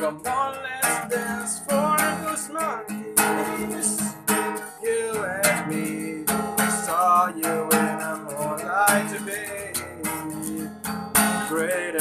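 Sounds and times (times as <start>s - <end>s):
acoustic guitar strumming: 0.0s - 12.0s
person singing: 0.0s - 12.0s.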